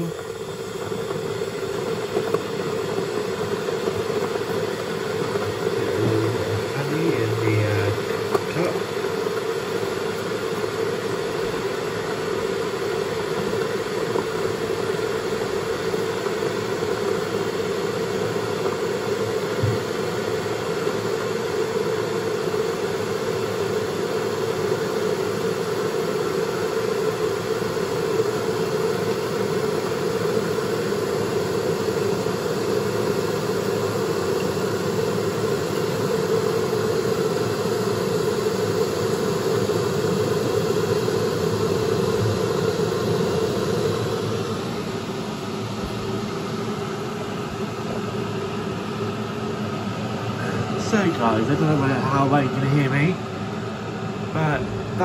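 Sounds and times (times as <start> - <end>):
electric kettle heating water: 0.0 - 55.0.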